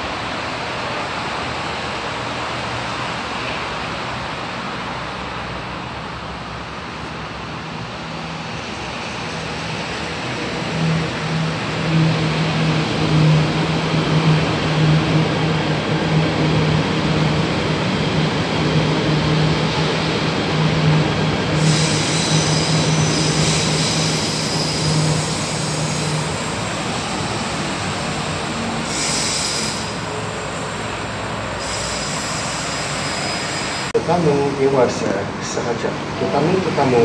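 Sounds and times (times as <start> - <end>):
electric train passing: 0.0 - 37.0.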